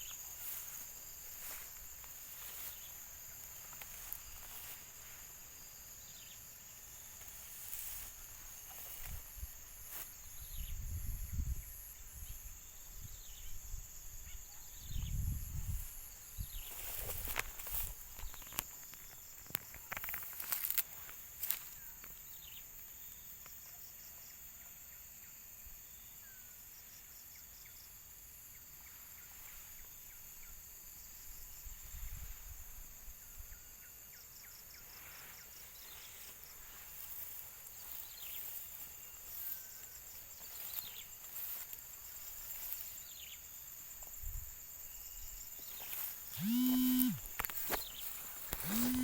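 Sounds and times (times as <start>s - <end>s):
high-pitched insect chorus: 0.0s - 49.0s
pulsing insect call: 0.0s - 49.0s.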